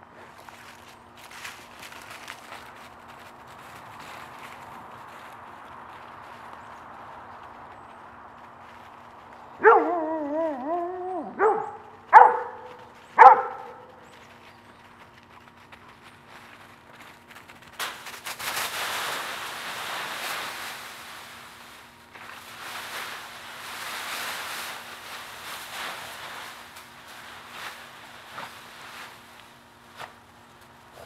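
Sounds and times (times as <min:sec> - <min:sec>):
dry leaves crunching: 0:00.0 - 0:31.0.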